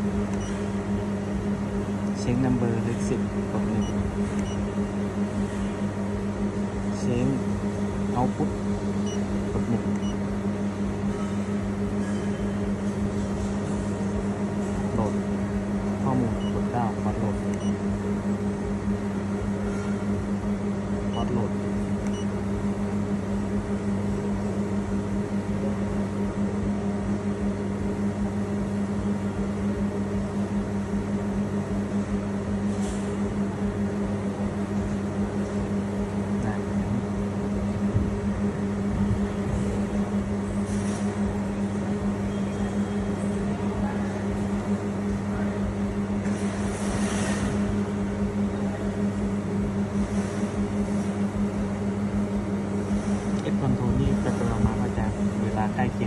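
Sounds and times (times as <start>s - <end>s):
controller cabinet humming: 0.0s - 56.0s
fan noise: 0.0s - 56.0s.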